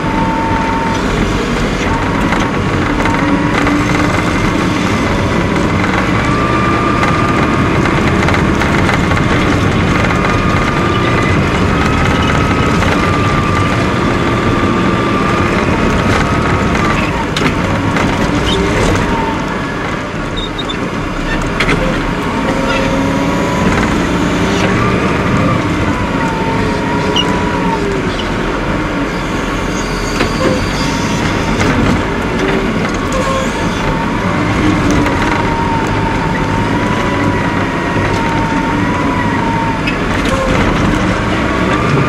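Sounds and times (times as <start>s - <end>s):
diesel engine running hard: 0.0s - 42.0s.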